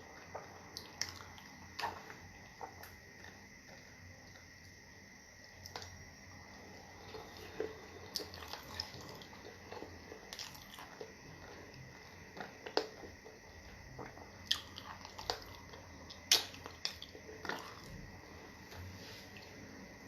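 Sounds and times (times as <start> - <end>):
wet chewing and smacking: 0.1 - 4.5, 6.9 - 18.9.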